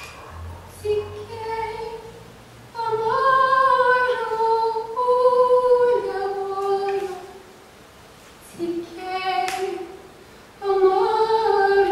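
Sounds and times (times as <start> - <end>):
woman singing wordlessly: 0.7 - 2.2, 2.8 - 7.4, 8.4 - 11.9.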